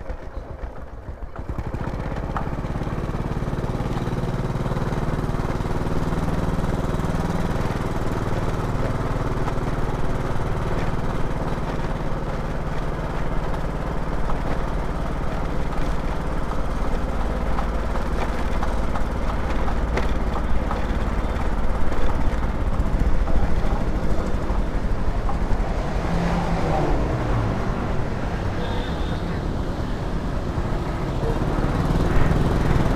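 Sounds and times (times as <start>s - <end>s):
scooter engine running: 0.0s - 32.9s
wind and road noise: 0.0s - 32.9s.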